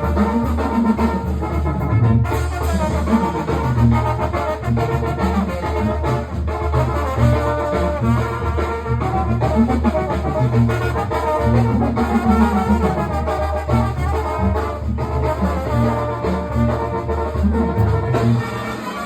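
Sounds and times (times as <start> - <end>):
trumpets and trombones: 0.0 - 19.0.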